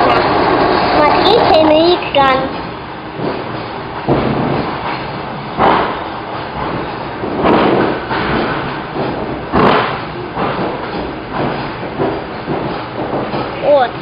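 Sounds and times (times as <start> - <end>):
train running rumble: 0.0 - 14.0
loud thuds: 1.5 - 14.0.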